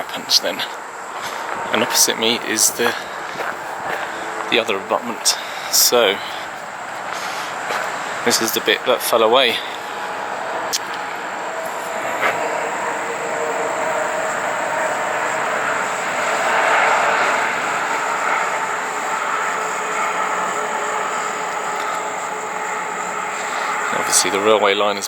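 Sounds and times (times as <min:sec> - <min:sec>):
train passing rushing noise: 0:00.0 - 0:25.0.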